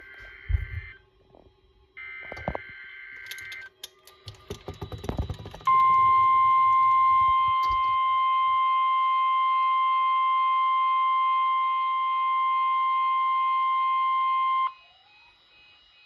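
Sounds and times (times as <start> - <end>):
piercing alarm tone: 0.0 - 1.0, 2.0 - 3.7, 4.3 - 16.0.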